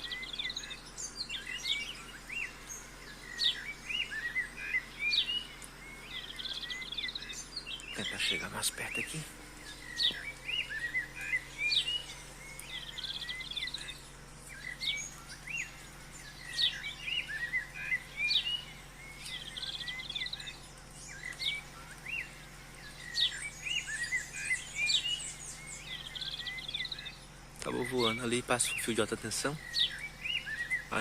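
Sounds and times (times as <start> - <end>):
wild birds singing: 0.0 - 31.0.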